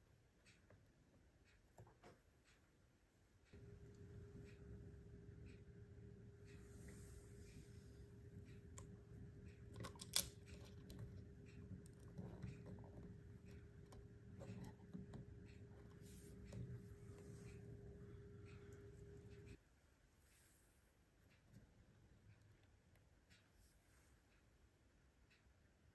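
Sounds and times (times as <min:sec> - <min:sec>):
faint steady hum: 0:00.0 - 0:25.9.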